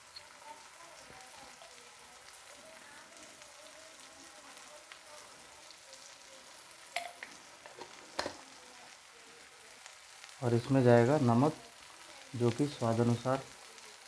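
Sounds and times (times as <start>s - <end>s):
masala sizzling in oil: 0.0s - 14.0s.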